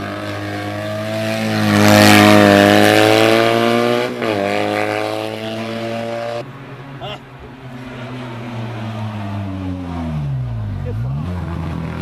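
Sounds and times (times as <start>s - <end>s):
race car accelerating past: 0.0s - 12.0s.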